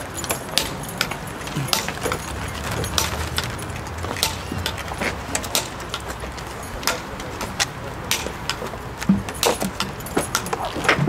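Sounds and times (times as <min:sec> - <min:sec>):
metal armour clinking: 0:00.0 - 0:11.0.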